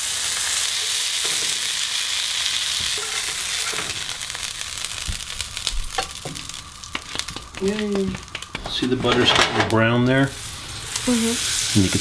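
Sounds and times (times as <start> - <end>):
butter sizzling in a frying pan: 0.0 - 12.0.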